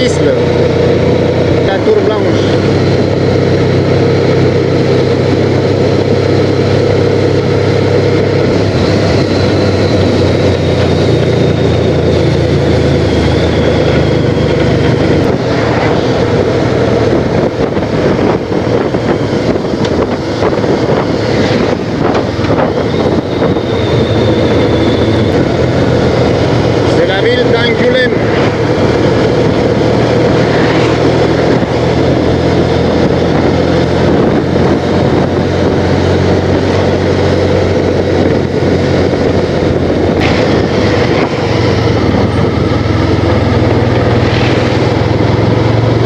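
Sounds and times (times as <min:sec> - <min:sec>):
motorcycle engine running: 0:00.0 - 0:46.0
road noise: 0:00.0 - 0:46.0
wind rush on microphone: 0:00.0 - 0:46.0.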